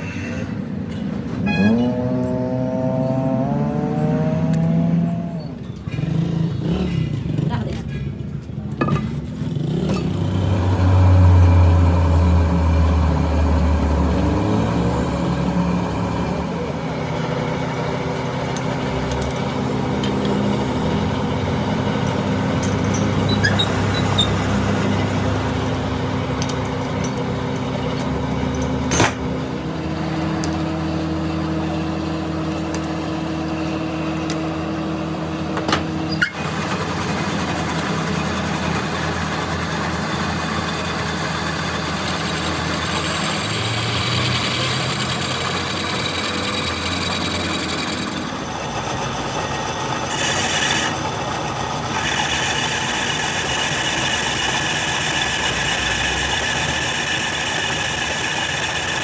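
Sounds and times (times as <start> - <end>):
workshop machinery running: 0.0 - 59.0.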